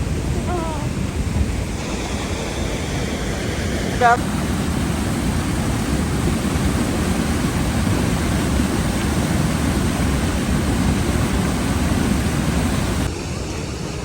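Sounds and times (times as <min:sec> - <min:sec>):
waterfall roaring: 0:00.0 - 0:13.1.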